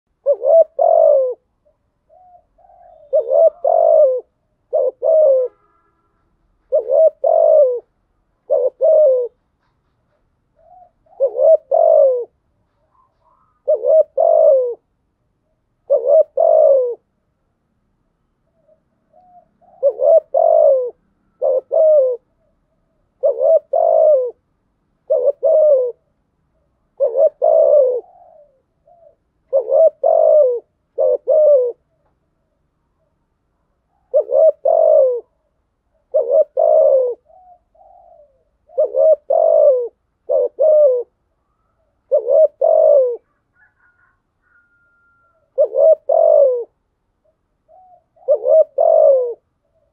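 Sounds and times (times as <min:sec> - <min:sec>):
dove cooing: 0:00.1 - 0:05.8, 0:06.6 - 0:15.0, 0:15.8 - 0:17.1, 0:18.5 - 0:32.1, 0:33.8 - 0:49.9.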